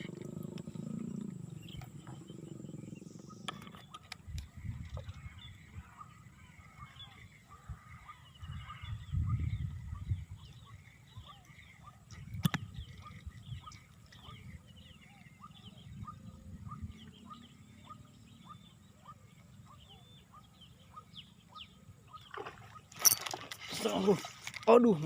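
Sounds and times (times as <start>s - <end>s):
wild birds chirping: 0.0s - 25.0s.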